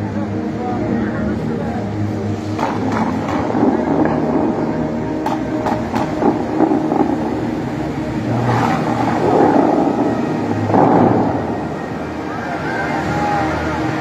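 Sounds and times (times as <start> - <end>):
sustained music: 0.0 - 14.0
water jets whooshing: 2.0 - 14.0.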